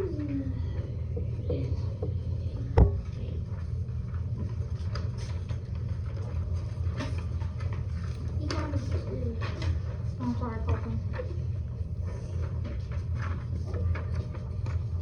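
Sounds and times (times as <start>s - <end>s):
classroom low hum: 0.0s - 15.0s.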